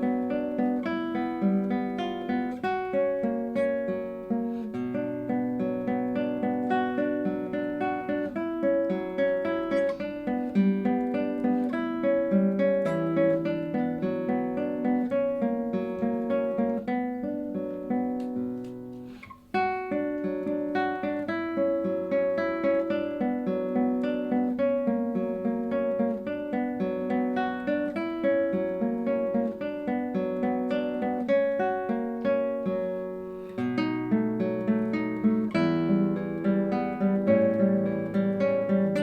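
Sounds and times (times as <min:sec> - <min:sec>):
classical guitar arpeggios: 0:00.0 - 0:39.0.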